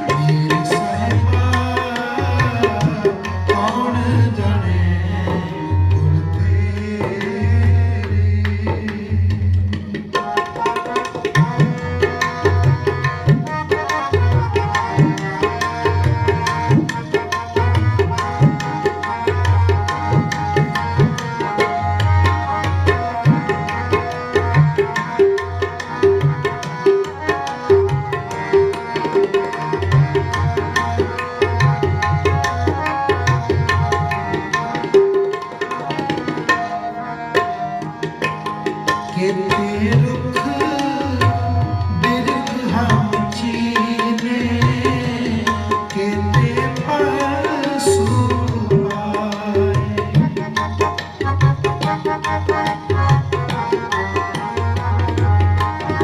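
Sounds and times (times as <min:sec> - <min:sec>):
tabla drumming: 0:00.0 - 0:56.0.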